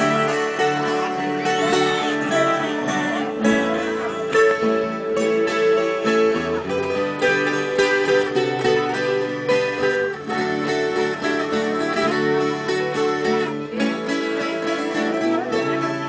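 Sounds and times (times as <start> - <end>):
acoustic guitar accompaniment: 0.0 - 16.0
plucked string melody: 0.0 - 16.0.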